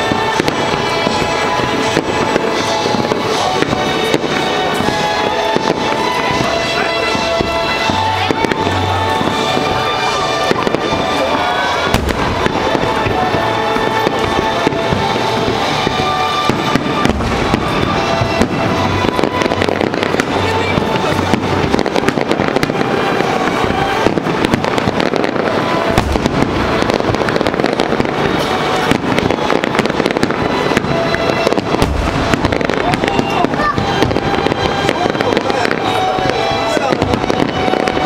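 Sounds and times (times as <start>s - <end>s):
fireworks bursting and crackling: 0.0s - 38.0s
music playing: 0.0s - 38.0s.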